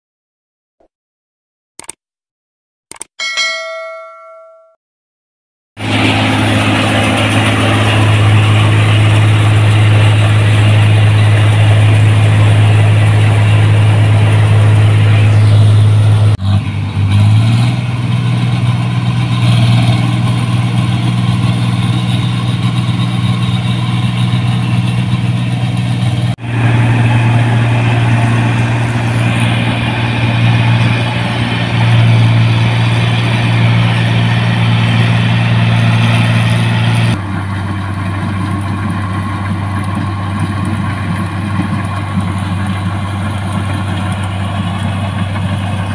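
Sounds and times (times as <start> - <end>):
combine harvester engine hum: 5.8 - 45.9
harvesting machinery noise: 5.8 - 45.9.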